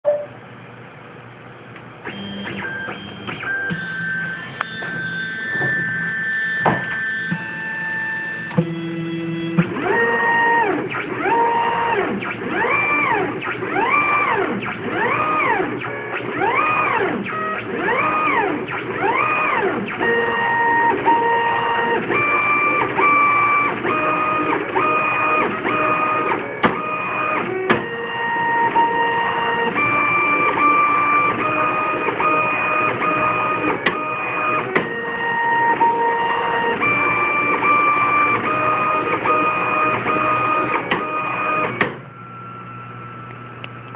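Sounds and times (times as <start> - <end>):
stepper motors whining: 2.0 - 43.9.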